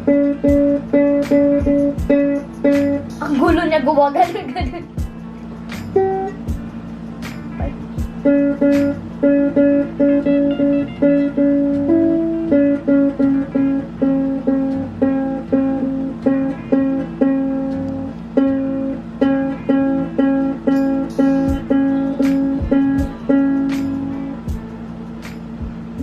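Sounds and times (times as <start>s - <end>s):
ukulele plucked notes and chords: 0.0s - 26.0s.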